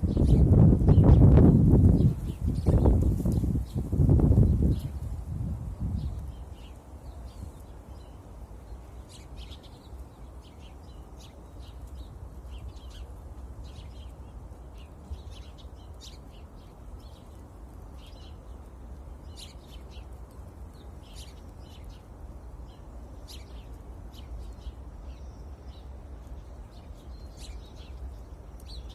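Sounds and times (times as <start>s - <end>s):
sparrows chirping: 0.0s - 28.9s.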